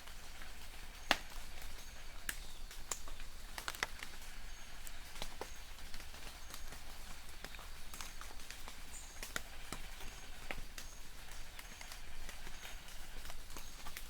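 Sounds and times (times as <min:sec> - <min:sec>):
rain pattering on leaves: 0:00.0 - 0:14.0.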